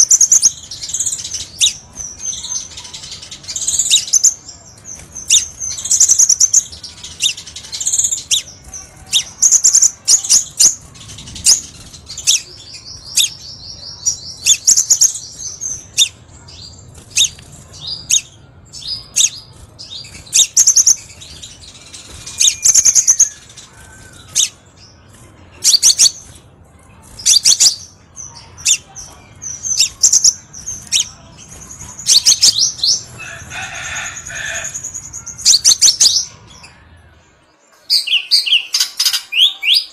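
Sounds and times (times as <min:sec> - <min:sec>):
bird trill: 0:00.0 - 0:25.0, 0:25.6 - 0:26.4, 0:27.0 - 0:37.0.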